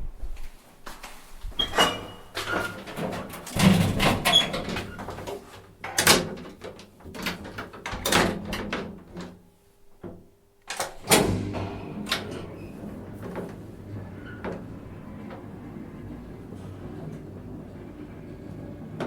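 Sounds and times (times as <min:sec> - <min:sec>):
elevator clunks and knocks: 0:01.6 - 0:09.3, 0:10.8 - 0:19.0.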